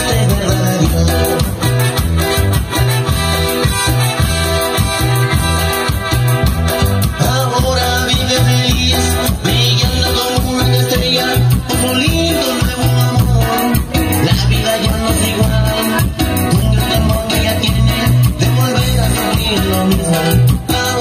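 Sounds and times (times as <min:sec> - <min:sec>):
steady bass beat: 0:00.0 - 0:21.0.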